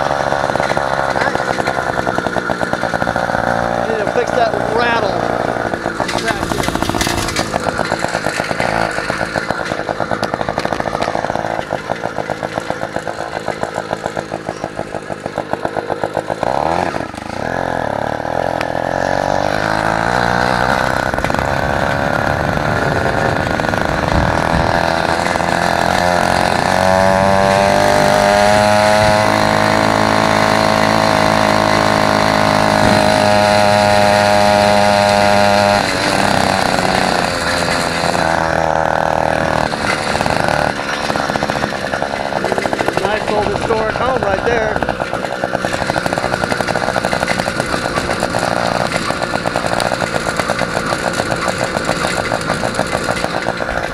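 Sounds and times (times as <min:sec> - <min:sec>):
small two-stroke engine running: 0:00.0 - 0:53.9.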